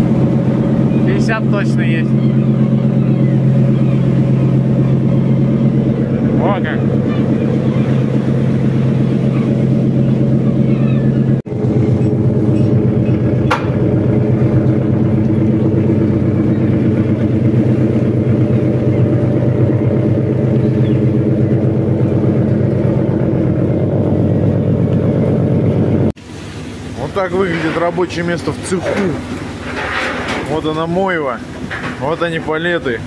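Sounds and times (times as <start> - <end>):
engine and deck machinery droning: 0.0 - 33.0.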